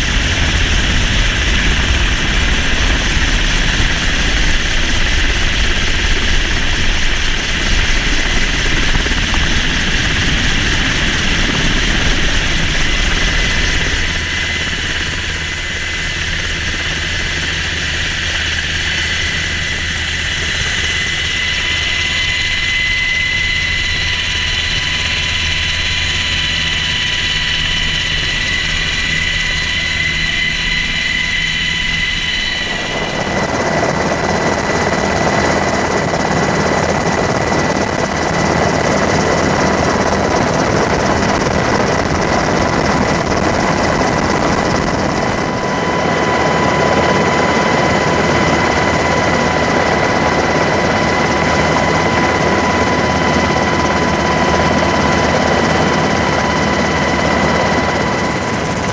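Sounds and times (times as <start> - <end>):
helicopter noise rush: 0.0 - 58.9
helicopter turbine whine: 0.0 - 58.9.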